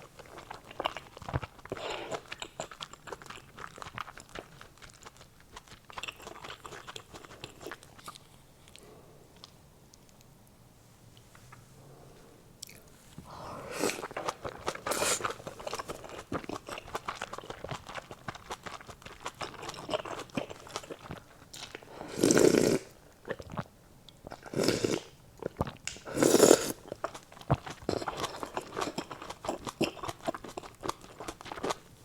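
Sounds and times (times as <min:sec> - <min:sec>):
mouth chewing crunchy food: 0:00.0 - 0:09.6, 0:13.6 - 0:32.0.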